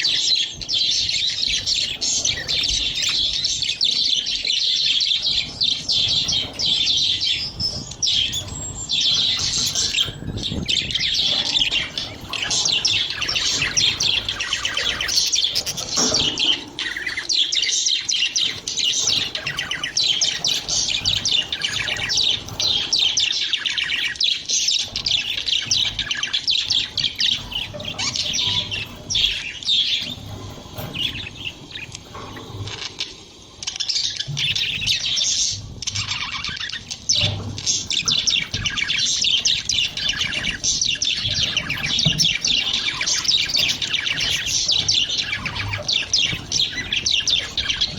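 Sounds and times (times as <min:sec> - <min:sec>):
budgerigars chattering and chirping: 0:00.0 - 0:47.9.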